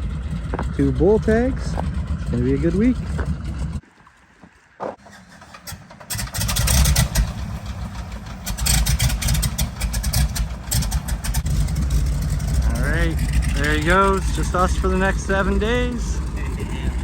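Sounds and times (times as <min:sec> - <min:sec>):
plane engine starting and running: 0:00.0 - 0:17.0.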